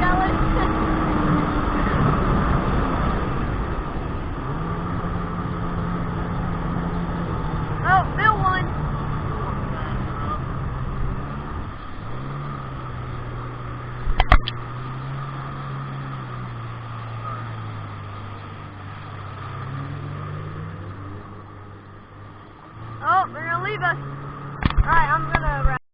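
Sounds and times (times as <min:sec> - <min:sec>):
jet ski engine running: 0:00.0 - 0:25.8.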